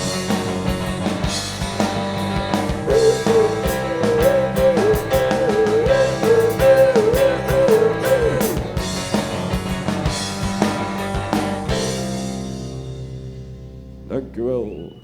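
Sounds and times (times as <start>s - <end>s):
drums beating: 0.0s - 13.8s
rock band playing live: 0.0s - 14.2s.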